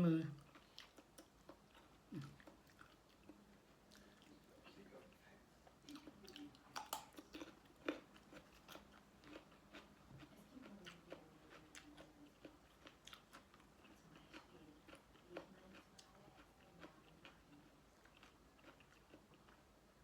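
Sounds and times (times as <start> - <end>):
person chewing crunchy food: 0.4 - 4.4, 5.8 - 19.7.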